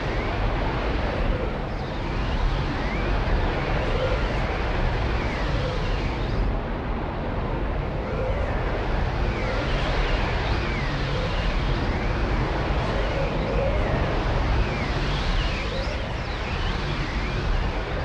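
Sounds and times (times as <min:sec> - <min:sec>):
rushing wind-like noise: 0:00.0 - 0:18.0.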